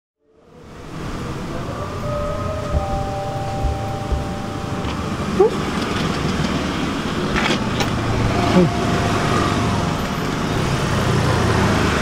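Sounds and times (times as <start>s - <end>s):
street traffic noise: 0.2s - 12.0s.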